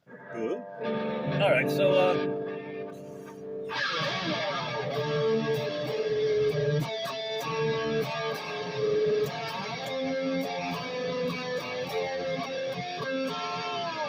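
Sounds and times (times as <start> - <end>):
electric guitar notes ringing: 0.0 - 14.0.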